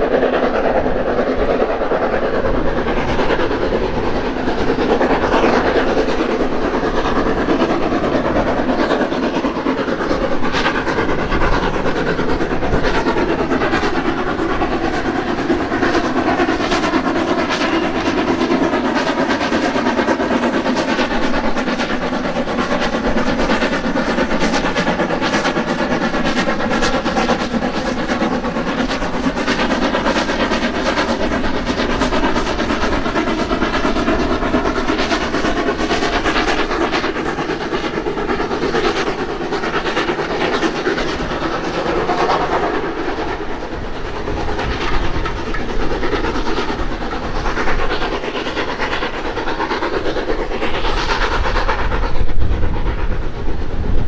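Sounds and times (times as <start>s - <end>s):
steam locomotive exhaust beats: 0.0s - 54.0s
train wheels clattering over rails: 0.0s - 54.0s.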